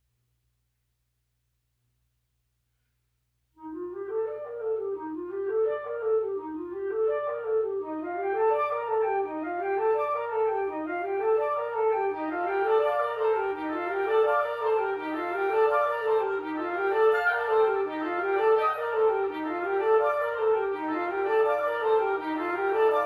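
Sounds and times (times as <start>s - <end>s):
wind quintet playing: 3.6s - 23.0s.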